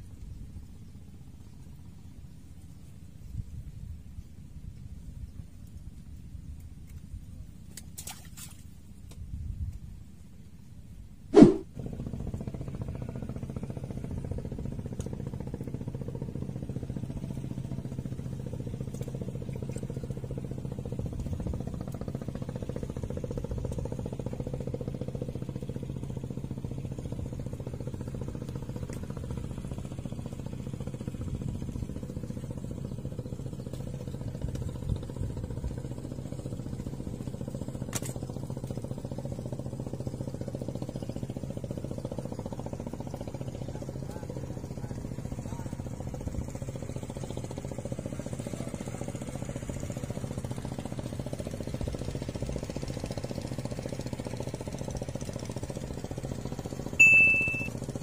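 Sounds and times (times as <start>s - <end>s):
engine droning: 11.4s - 58.0s.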